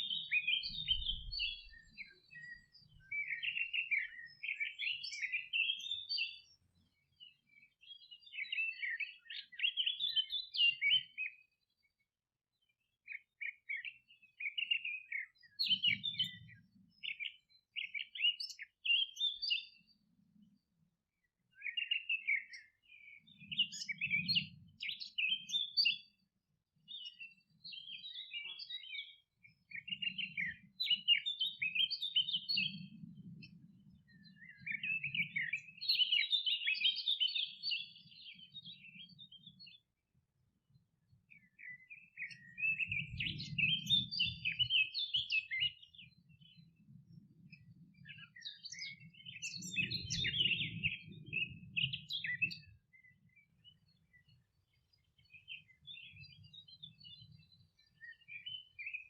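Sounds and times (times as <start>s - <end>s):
songbirds twittering and chirping: 0.0s - 59.0s.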